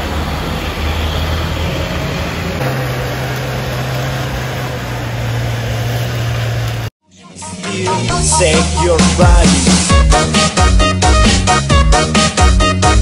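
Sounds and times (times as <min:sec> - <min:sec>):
heavy truck engine labouring: 0:00.0 - 0:13.0.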